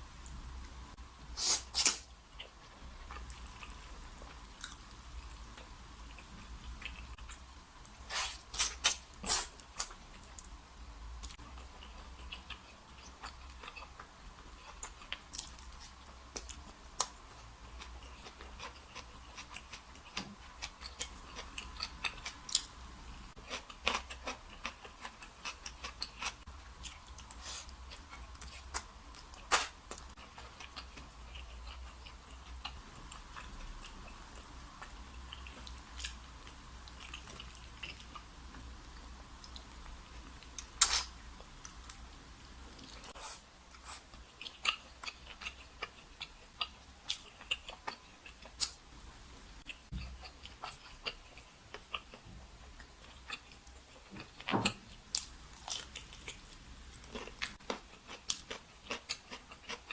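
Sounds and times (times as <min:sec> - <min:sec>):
person chewing: 0:01.4 - 0:10.5, 0:11.2 - 0:22.7, 0:23.4 - 0:38.6, 0:39.4 - 0:41.9, 0:42.7 - 0:48.8, 0:49.6 - 0:59.9.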